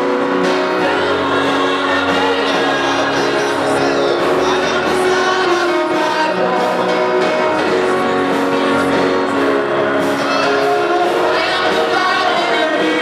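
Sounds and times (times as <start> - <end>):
gospel worship music: 0.0 - 13.0.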